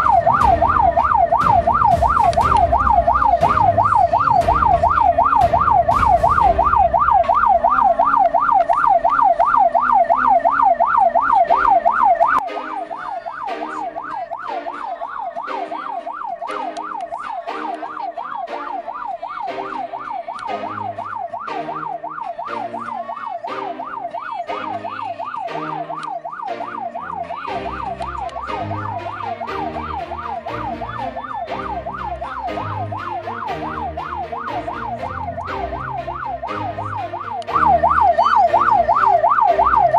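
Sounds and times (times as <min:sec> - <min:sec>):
ambulance siren yelping: 0:00.0 - 0:39.9
rhythmic low notes: 0:00.0 - 0:39.9.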